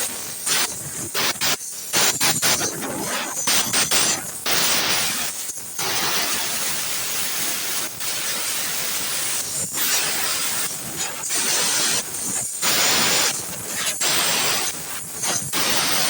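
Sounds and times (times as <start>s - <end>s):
compressed air blow gun hissing: 0.1s - 16.0s.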